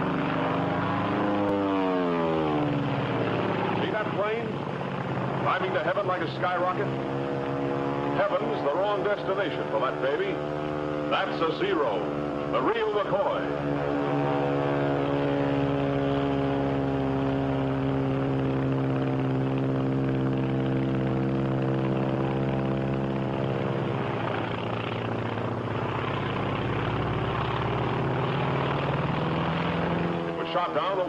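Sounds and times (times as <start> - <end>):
propeller aircraft engine drone: 0.0 - 31.0.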